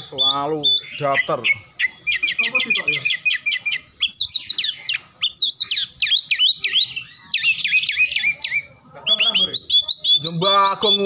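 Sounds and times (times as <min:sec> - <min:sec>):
bird singing harsh notes: 0:00.0 - 0:11.0.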